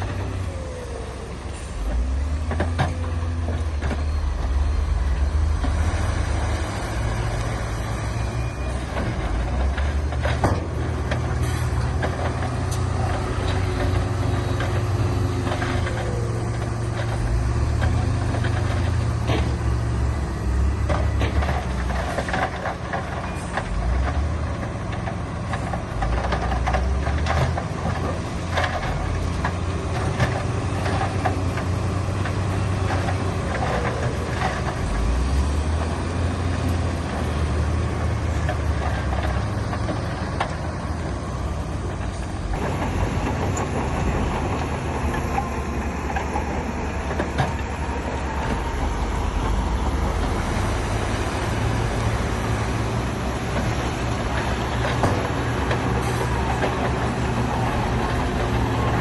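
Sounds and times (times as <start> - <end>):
diesel engine rumble: 0.0 - 59.0.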